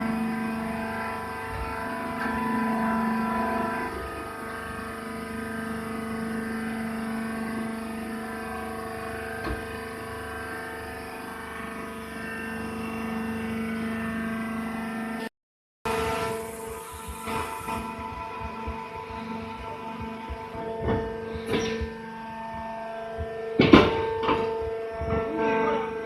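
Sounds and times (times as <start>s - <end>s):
baler motor droning: 0.0s - 15.3s, 15.9s - 26.0s.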